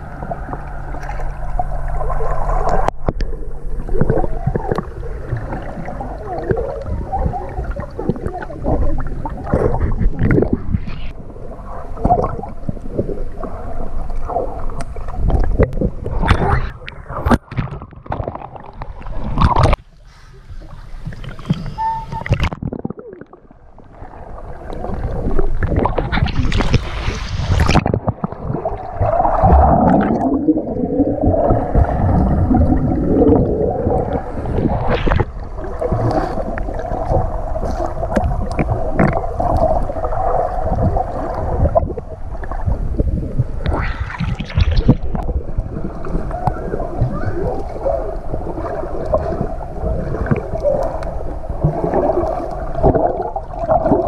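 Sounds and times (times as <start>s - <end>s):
swimming kicks and bubbling: 0.0s - 54.0s
water gurgling and splashing: 0.0s - 54.0s.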